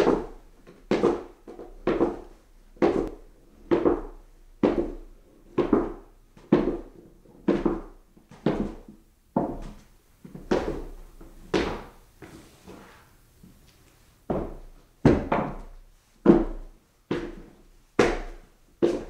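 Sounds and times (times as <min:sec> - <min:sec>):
footsteps walking up stairs: 0:00.0 - 0:19.0.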